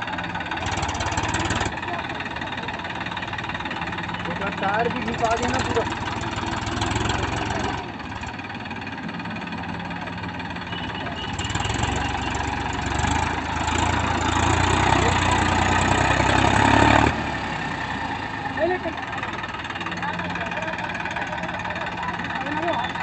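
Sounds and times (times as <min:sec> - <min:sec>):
tractor diesel engine straining: 0:00.0 - 0:23.0.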